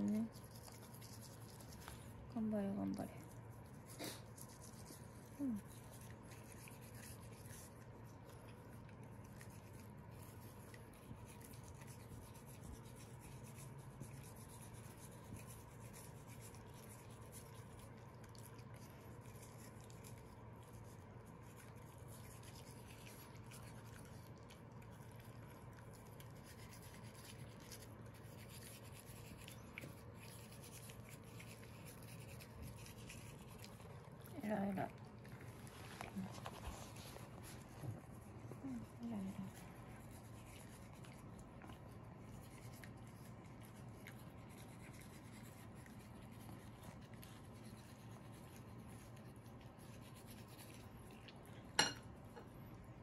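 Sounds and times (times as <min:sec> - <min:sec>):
toothbrush scrubbing teeth: 0:00.0 - 0:52.3.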